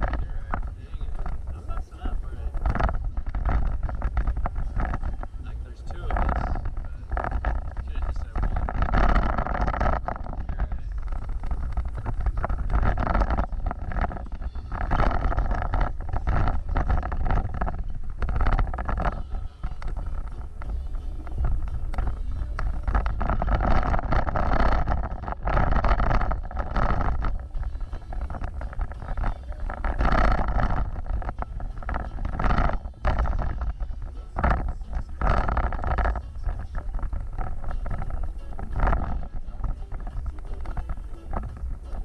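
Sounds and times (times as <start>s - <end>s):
off-road vehicle engine: 0.0s - 42.0s
wind rumble on microphone: 0.0s - 42.0s.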